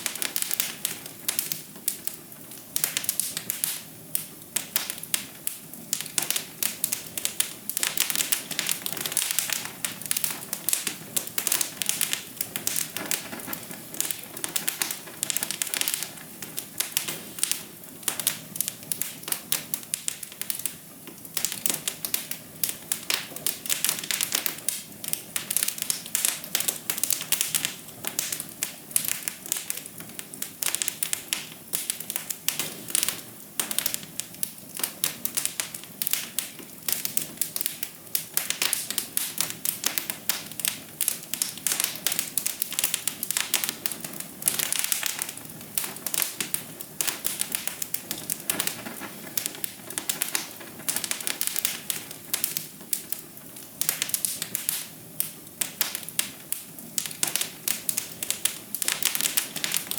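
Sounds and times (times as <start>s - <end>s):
soft steady hiss: 0.0s - 59.9s
wood fire crackling: 0.0s - 59.9s.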